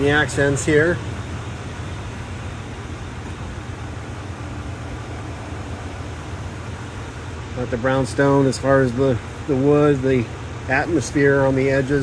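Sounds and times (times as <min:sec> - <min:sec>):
background hiss: 0:00.0 - 0:12.0
steady low hum: 0:00.0 - 0:12.0.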